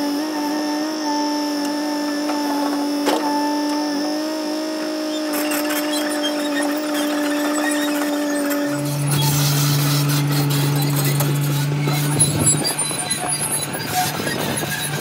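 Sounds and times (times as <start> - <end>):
excavator high-pitched whine: 0.0 - 15.0.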